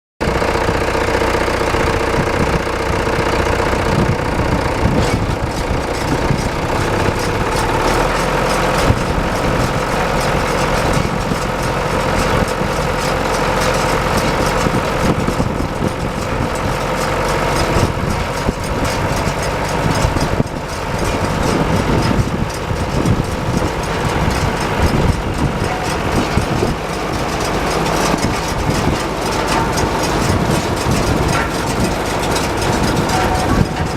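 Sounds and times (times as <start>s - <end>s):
tractor engine running: 0.2s - 33.9s
steady whine: 0.8s - 33.9s.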